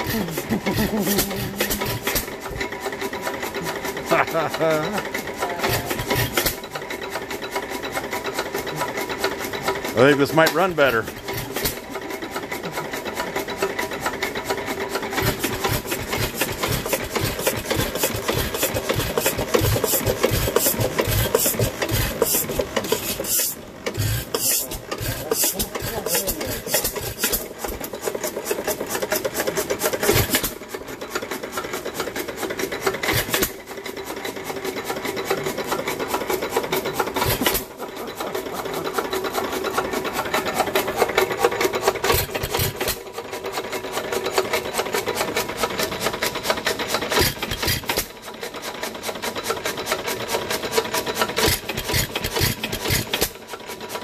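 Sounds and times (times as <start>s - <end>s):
old engine mechanical clatter: 0.0s - 54.0s.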